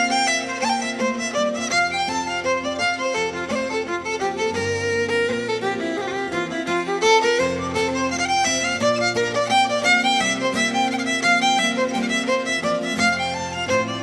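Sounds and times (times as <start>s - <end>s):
fiddle playing fast tune: 0.0s - 14.0s.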